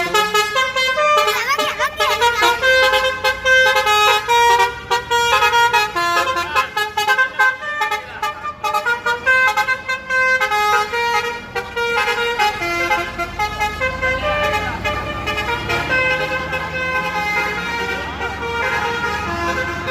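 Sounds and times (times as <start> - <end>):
multi-tone musical bus horn: 0.0 - 19.9.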